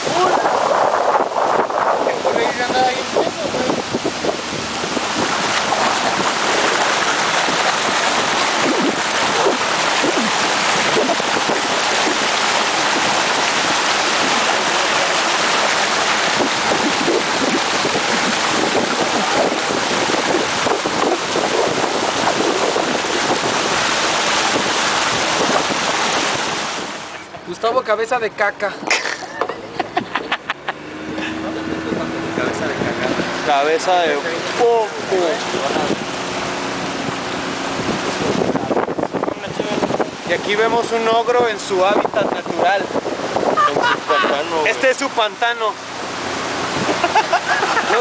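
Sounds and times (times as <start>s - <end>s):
wind buffeting microphone: 0.0s - 27.5s, 29.5s - 48.0s
water rushing along hull: 0.0s - 48.0s.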